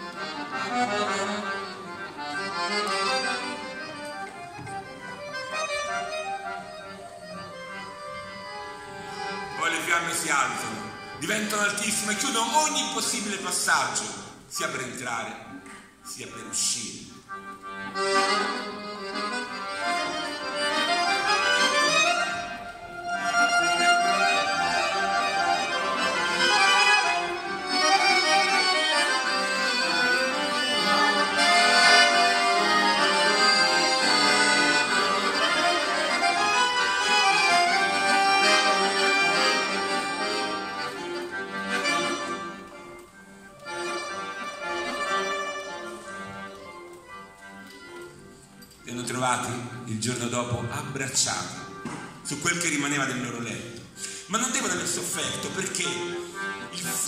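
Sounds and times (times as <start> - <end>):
accordion melody: 0.0 - 57.0.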